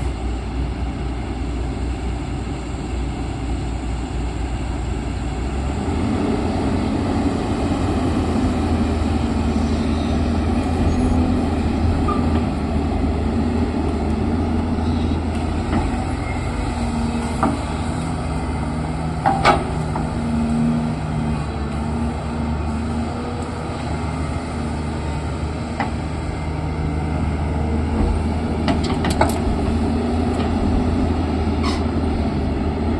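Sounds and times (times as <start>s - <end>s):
heavy machine engine running: 0.0s - 32.9s.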